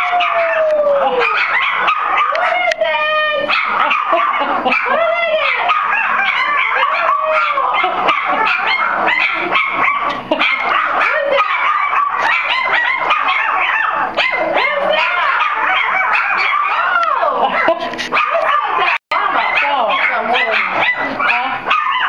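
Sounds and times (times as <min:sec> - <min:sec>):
puppies howling and yipping: 0:00.0 - 0:22.0.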